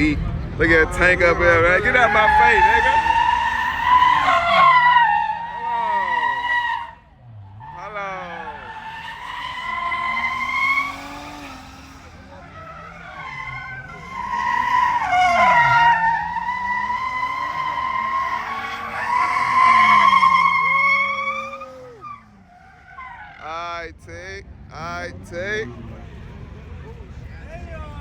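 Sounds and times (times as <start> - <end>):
car engine revving: 0.0 - 28.0
car tyres squealing: 0.0 - 28.0.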